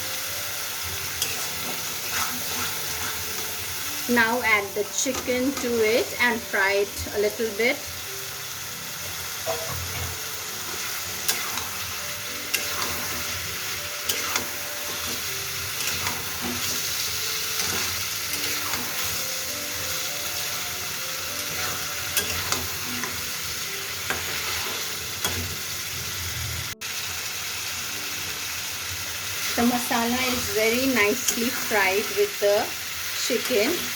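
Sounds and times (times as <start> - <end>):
chicken sizzling in oil: 0.0 - 33.9.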